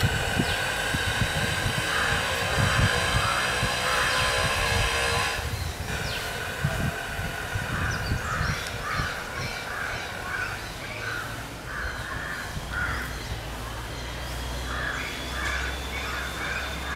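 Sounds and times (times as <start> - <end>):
harsh bird calls: 0.0 - 16.9.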